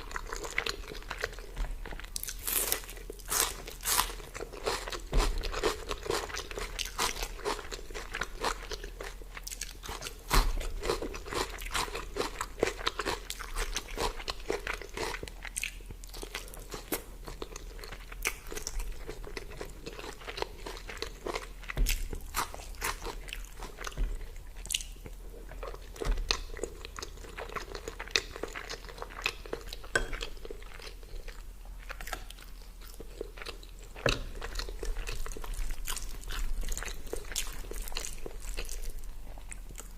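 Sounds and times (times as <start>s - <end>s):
person crunching and chewing: 0.0s - 39.9s.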